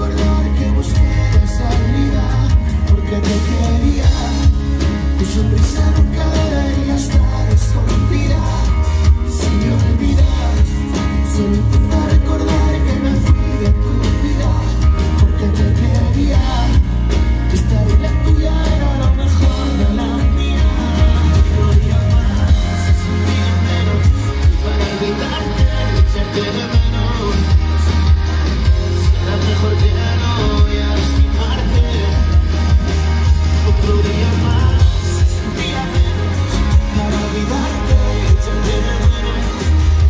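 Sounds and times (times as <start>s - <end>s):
drum kit: 0.0s - 40.0s
electric guitar: 0.0s - 40.0s
man singing: 0.0s - 40.0s.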